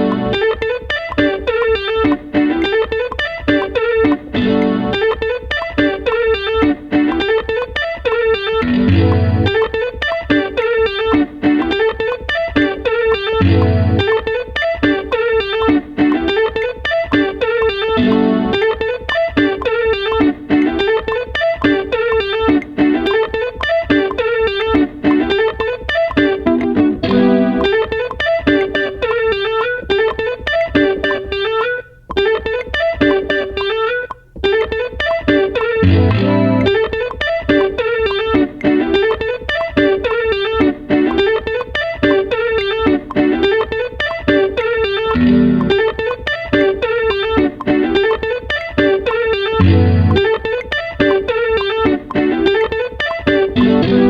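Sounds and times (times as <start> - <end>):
plucked-string melody: 0.0 - 54.0.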